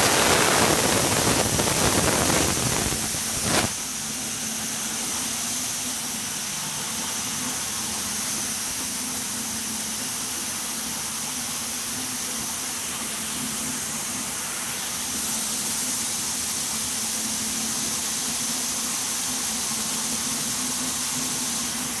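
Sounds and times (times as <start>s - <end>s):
yarn machines hissing: 0.0s - 22.0s.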